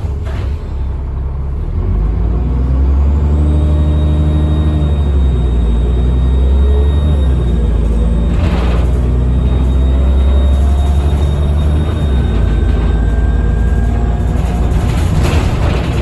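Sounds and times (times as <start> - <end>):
diesel bus engine running: 0.0 - 16.0
turbocharger whine: 2.6 - 16.0.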